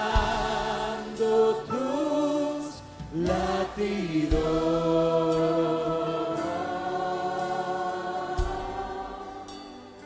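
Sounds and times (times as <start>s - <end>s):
singers holding a long note: 0.0s - 9.9s
backing music: 0.0s - 10.0s.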